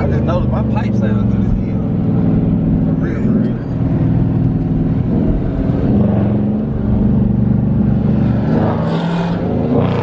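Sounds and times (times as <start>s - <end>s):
car engine droning under load: 0.0s - 10.0s.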